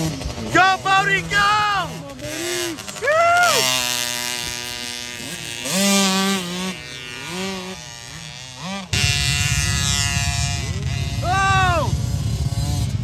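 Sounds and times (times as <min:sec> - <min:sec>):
loud rough noise: 0:00.0 - 0:13.0
small motorbike engine revving: 0:00.0 - 0:13.0.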